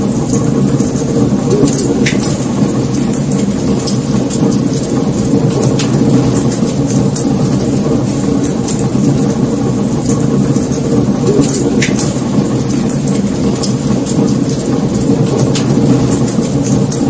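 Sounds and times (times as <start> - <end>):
wood fire roaring: 0.0 - 17.0.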